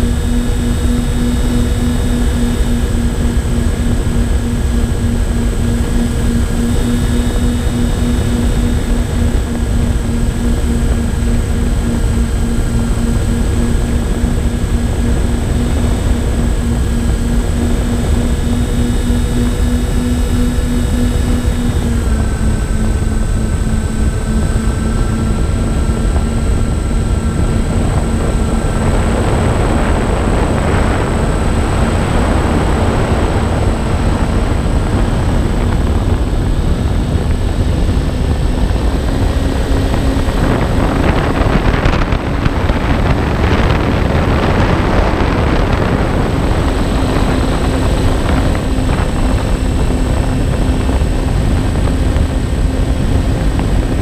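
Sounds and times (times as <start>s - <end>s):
electric motors and propellers humming: 0.0s - 54.0s
faint high whine: 0.0s - 54.0s
wind rush on microphone: 0.0s - 54.0s.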